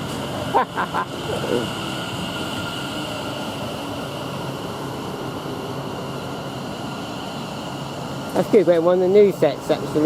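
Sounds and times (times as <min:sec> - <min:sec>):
electric train running: 0:00.0 - 0:10.0.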